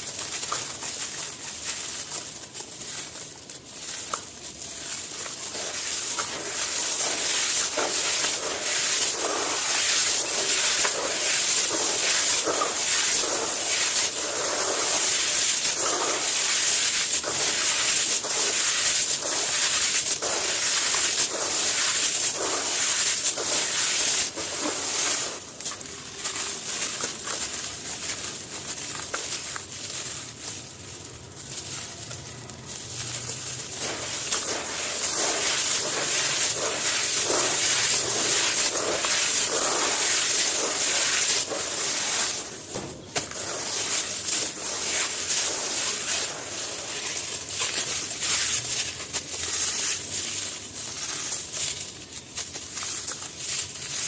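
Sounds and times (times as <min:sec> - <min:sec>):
gritty material crunching: 0:00.0 - 0:54.0.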